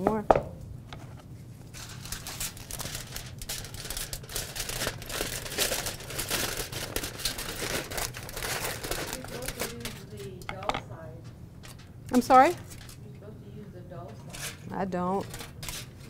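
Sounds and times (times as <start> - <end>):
aluminum foil crinkling: 1.6 - 13.1, 14.0 - 16.0.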